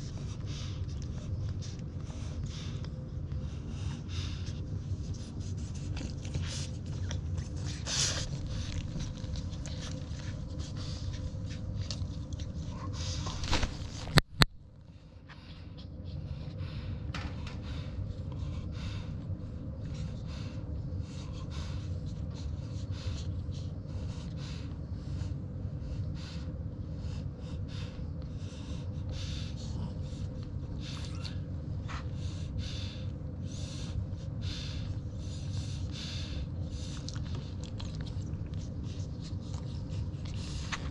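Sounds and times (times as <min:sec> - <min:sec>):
puppies suckling: 0:00.0 - 0:14.2, 0:15.1 - 0:40.9
steady low rumble: 0:00.0 - 0:40.9.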